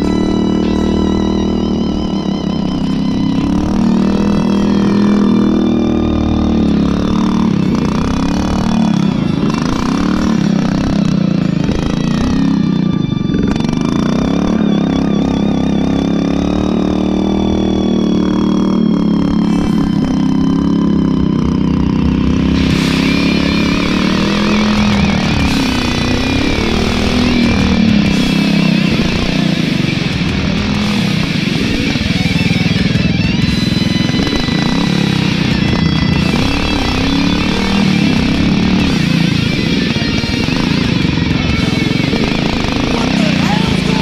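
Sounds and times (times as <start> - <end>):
small engine revving under load: 0.0 - 44.0.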